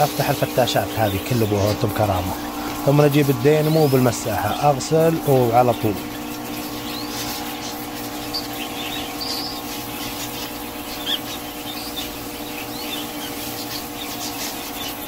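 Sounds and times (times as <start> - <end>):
cage birds chirping: 0.0 - 15.0
electric water pump humming: 0.0 - 15.0.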